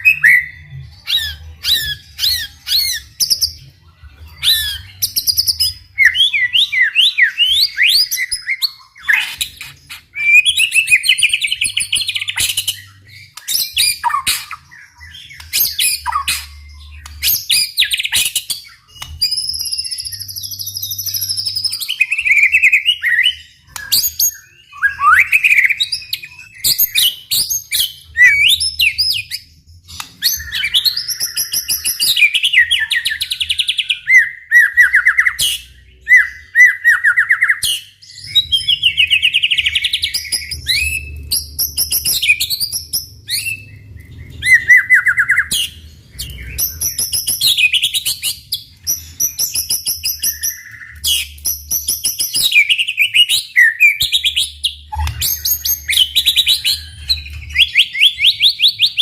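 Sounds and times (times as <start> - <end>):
bird singing trills and whistles: 0.0 - 59.0.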